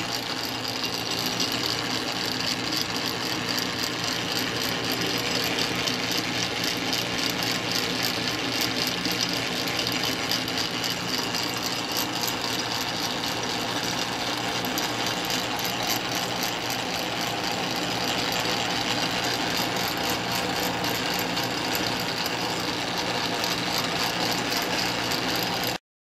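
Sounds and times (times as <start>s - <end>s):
lathe clattering and whirring: 0.0s - 25.8s.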